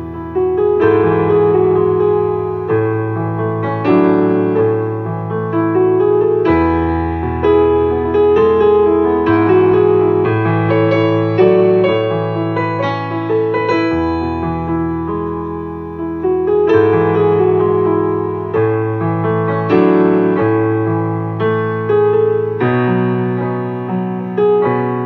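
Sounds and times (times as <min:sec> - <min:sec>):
electronic keyboard piano chords: 0:00.0 - 0:25.0.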